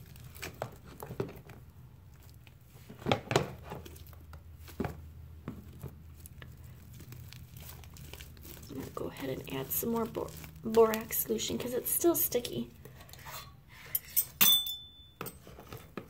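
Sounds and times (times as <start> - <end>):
slime squelching: 0.0 - 12.9.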